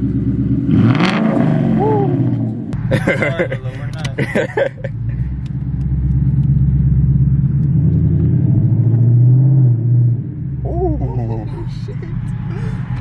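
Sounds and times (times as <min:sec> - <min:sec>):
car exhaust drone: 0:00.0 - 0:13.0.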